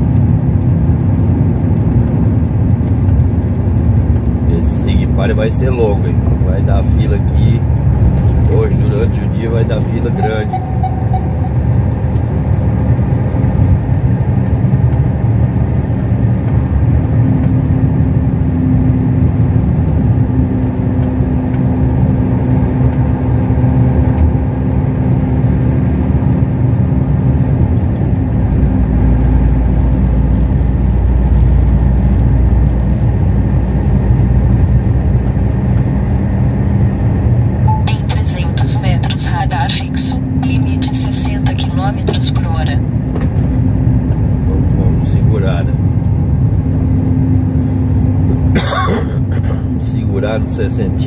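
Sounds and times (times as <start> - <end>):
truck engine drone: 0.0 - 51.0.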